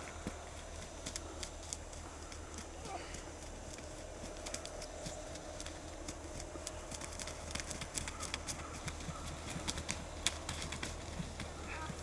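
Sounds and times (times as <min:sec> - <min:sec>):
steady low rumble: 0:00.0 - 0:12.0
turkey wings flapping: 0:00.0 - 0:12.0.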